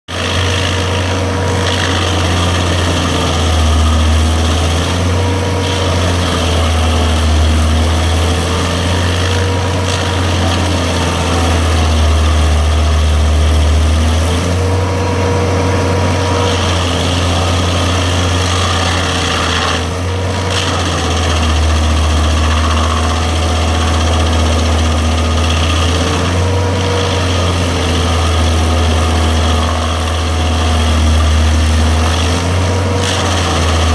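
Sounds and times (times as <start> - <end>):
grinder motor humming: 0.1 - 33.9.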